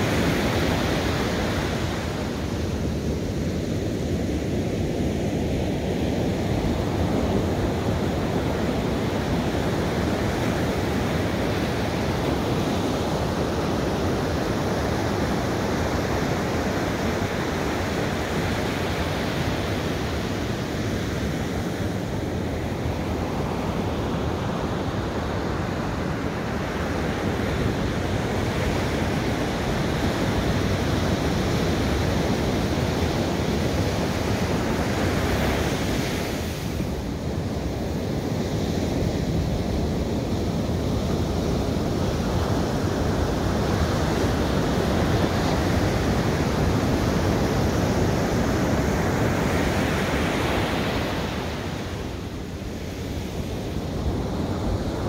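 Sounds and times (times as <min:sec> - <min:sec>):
ocean waves breaking on sand: 0:00.0 - 0:55.0.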